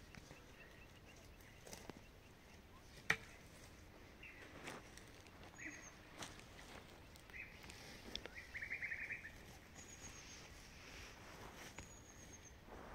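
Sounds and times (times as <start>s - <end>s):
birds chirping: 0.0s - 12.7s.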